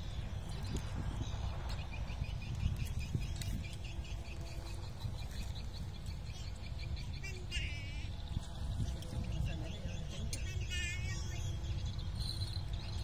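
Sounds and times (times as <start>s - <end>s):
small bird high chirps: 0.0s - 13.0s
wind rumble on microphone: 0.0s - 13.0s.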